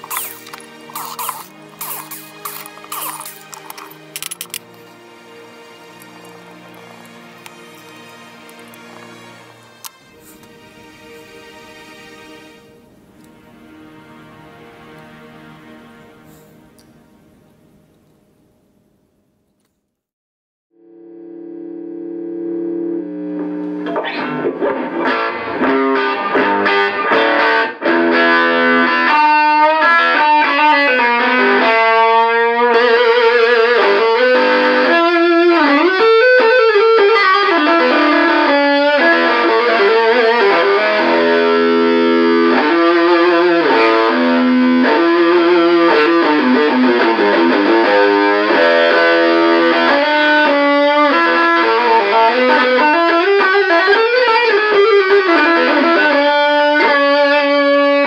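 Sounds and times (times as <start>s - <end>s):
distorted electric guitar lead: 0.0s - 11.4s, 20.8s - 58.0s.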